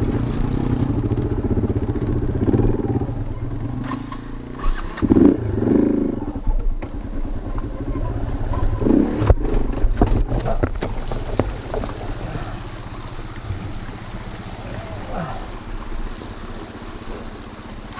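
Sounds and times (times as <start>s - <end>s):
motorcycle engine with throttle blips: 0.0s - 17.9s.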